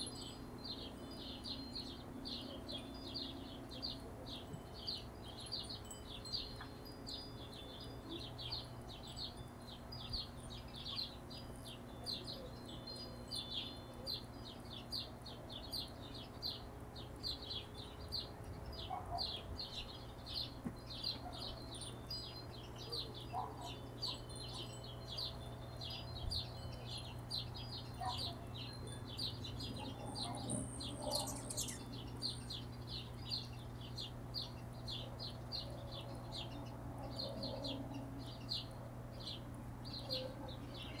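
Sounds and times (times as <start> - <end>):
hummingbirds chipping: 0.0 - 41.0.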